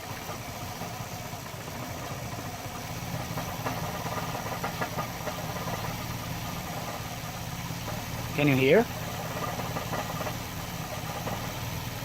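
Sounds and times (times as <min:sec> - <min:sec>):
engine idling rough: 0:00.0 - 0:12.0.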